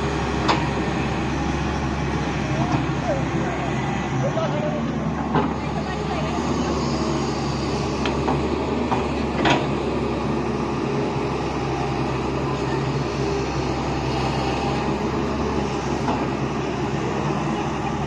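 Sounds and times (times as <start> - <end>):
excavator diesel engine: 0.0 - 18.0.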